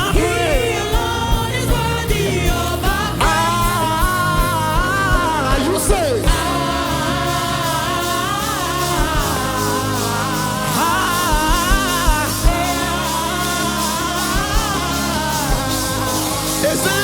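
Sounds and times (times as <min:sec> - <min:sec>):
kick drum beats: 0:00.0 - 0:07.6, 0:09.0 - 0:13.8, 0:14.4 - 0:16.9
gospel worship band playing: 0:00.0 - 0:17.0
steady bass line: 0:00.0 - 0:17.0
voices singing: 0:00.0 - 0:17.0.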